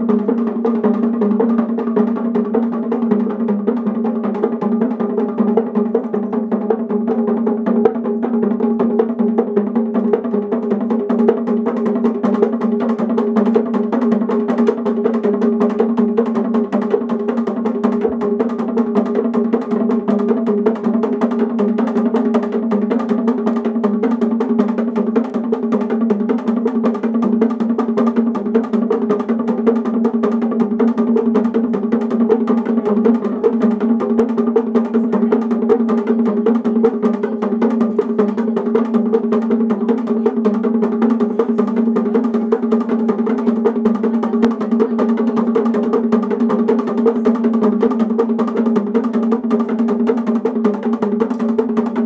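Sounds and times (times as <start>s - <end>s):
bongo drums struck with sticks: 0.0s - 52.0s.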